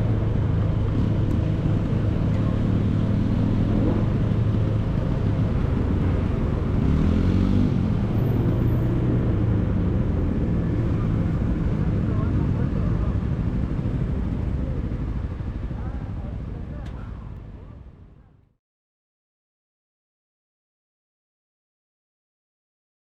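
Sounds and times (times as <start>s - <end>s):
motorcycle engine hum: 0.0s - 18.5s.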